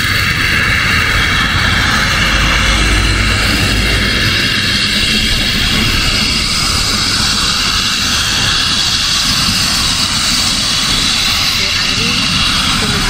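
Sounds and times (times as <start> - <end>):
turboprop engines whining: 0.0 - 13.0.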